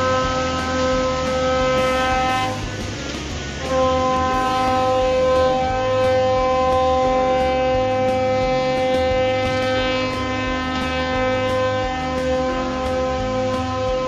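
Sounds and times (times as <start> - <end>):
low rumble of churning water: 0.0 - 14.0
ship's horn blast: 0.0 - 14.0.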